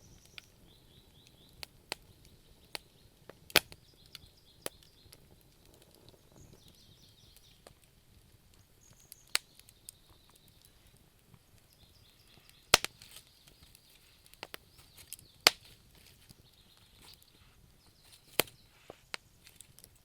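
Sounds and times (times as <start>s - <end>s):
faint fire hiss: 0.0s - 20.0s
wood fire crackling: 0.0s - 20.0s.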